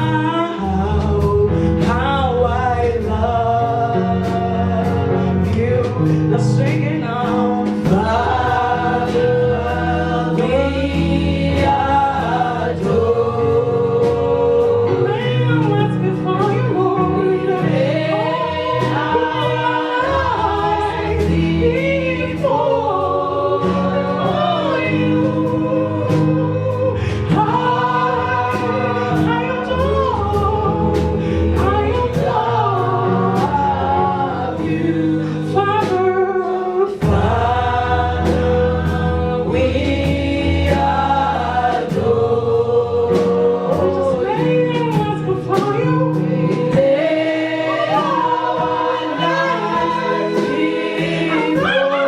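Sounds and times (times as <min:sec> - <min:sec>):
bass notes: 0:00.0 - 0:52.0
group singing gospel song: 0:00.0 - 0:52.0
held keyboard notes: 0:00.0 - 0:52.0.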